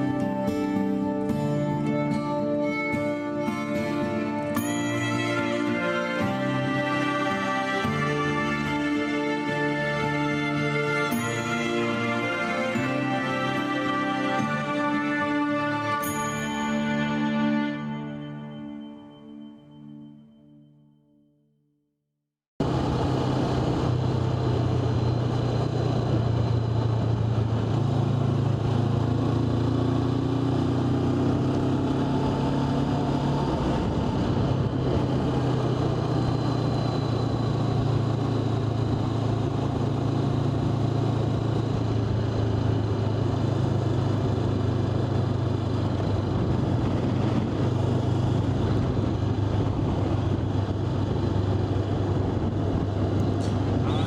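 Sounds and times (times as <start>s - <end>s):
vehicle engine droning: 0.0s - 18.9s, 22.6s - 54.0s
road noise: 0.0s - 20.1s, 22.6s - 54.0s.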